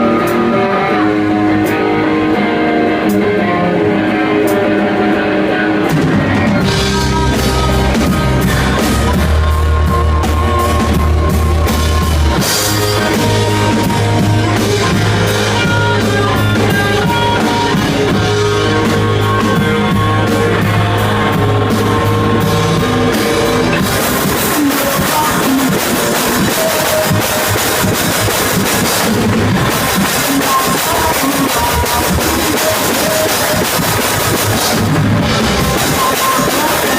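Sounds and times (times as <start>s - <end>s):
guitar notes: 0.0s - 36.9s
rock band playing: 0.0s - 36.9s.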